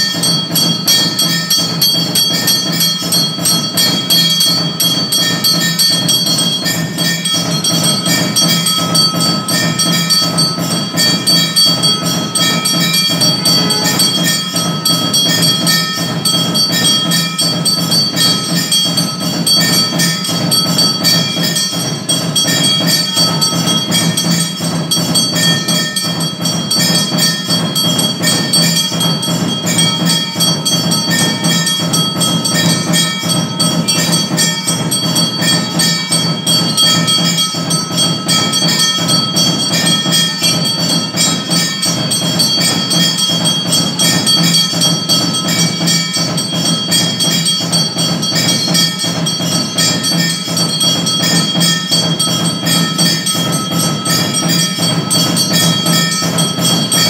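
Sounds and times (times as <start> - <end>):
percussion: 0.0 - 57.0
temple bells ringing: 0.0 - 57.0.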